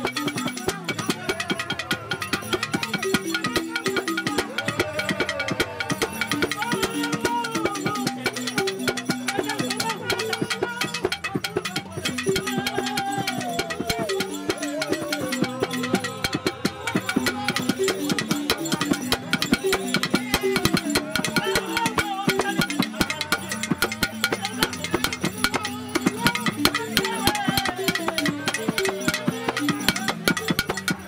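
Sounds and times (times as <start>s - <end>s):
calabash drum beating: 0.0s - 31.0s
wooden xylophones playing rapid patterns: 0.0s - 31.0s.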